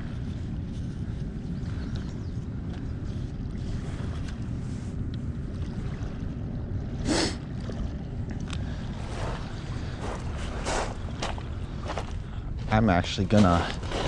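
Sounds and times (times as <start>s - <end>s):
wind on microphone: 0.0s - 12.1s.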